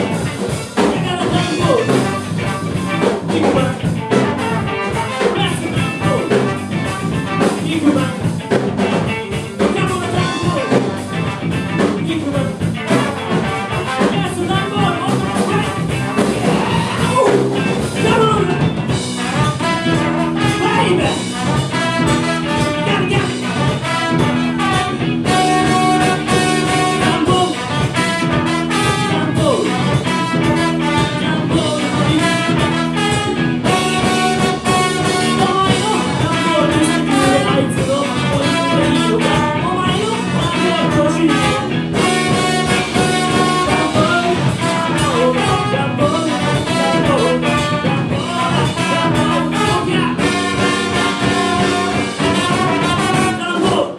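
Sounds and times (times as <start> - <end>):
brass horns: 0.0 - 53.9
live funk band: 0.0 - 53.9.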